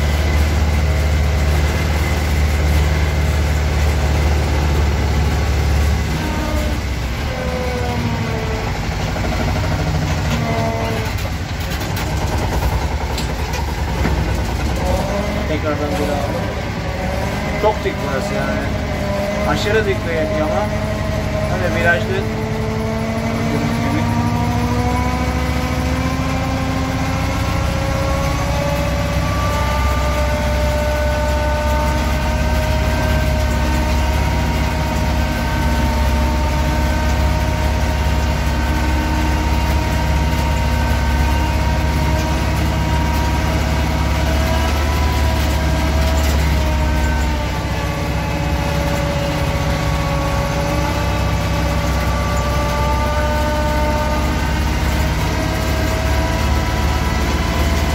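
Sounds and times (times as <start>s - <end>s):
single-cylinder diesel engine running: 0.0s - 57.9s.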